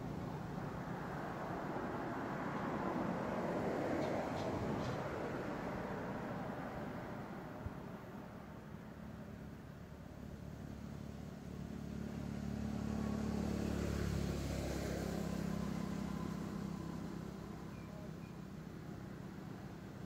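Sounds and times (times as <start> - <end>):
vehicle passing by: 0.0 - 7.6, 10.5 - 20.0.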